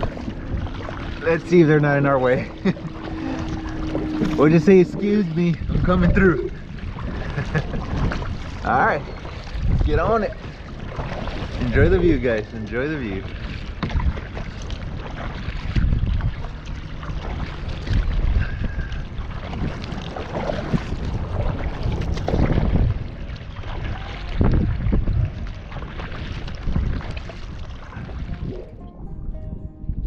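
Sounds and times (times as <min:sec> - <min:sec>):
water sloshing against kayak: 0:00.0 - 0:29.0
wind buffeting microphone: 0:00.0 - 0:30.0.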